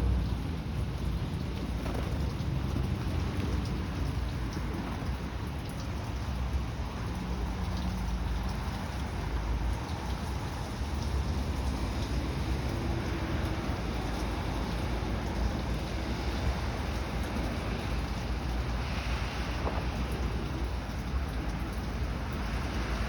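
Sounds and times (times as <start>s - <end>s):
rain falling: 0.0s - 23.0s
raindrop ticks: 0.0s - 23.0s.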